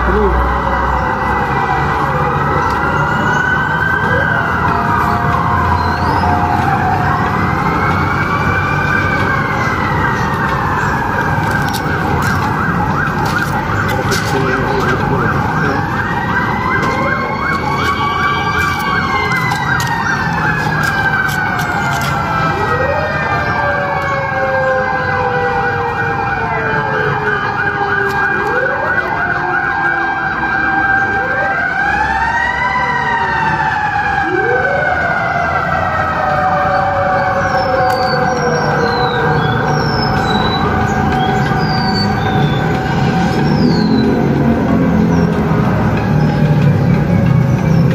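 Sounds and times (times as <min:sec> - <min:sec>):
sirens wailing: 0:00.0 - 0:47.9.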